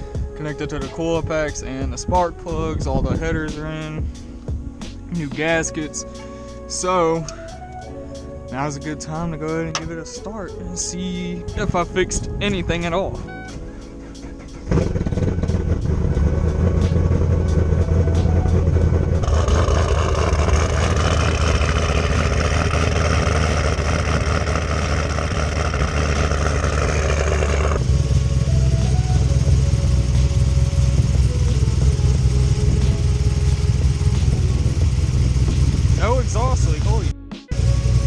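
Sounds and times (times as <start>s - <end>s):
car engine idling: 0.0s - 12.1s, 12.8s - 38.0s.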